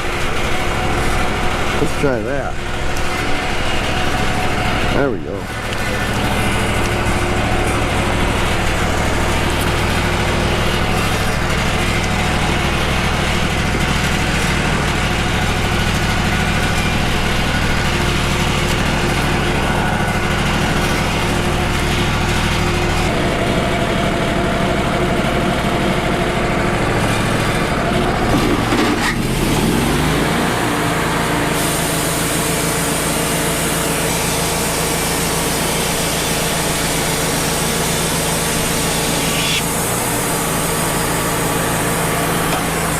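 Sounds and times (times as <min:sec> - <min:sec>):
band sawmill running: 0:00.0 - 0:42.9.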